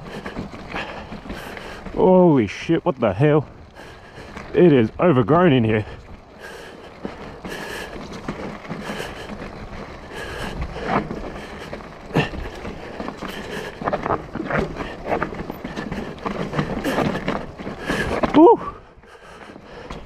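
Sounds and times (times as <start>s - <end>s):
tyres on dirt and grass: 0.0s - 20.0s.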